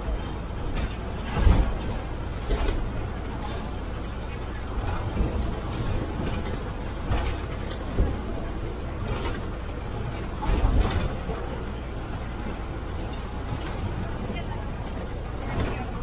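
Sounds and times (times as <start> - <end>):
bus engine and road rumble: 0.0 - 16.0
body knocks and rattles: 0.6 - 16.0.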